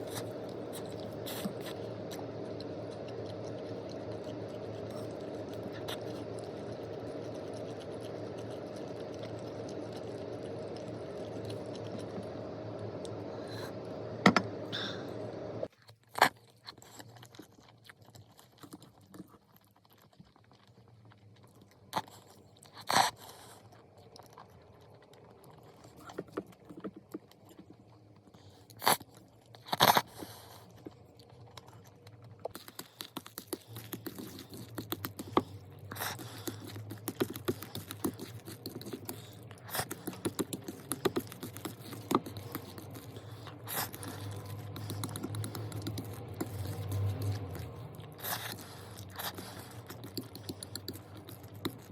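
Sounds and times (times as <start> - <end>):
chewing and crunching: 0.0 - 15.0, 15.6 - 51.9
steady hum: 0.0 - 15.7, 23.2 - 51.9.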